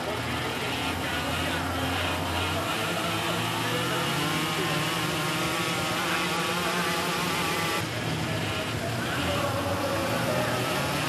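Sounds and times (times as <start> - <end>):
go-kart engines revving: 0.0 - 11.0.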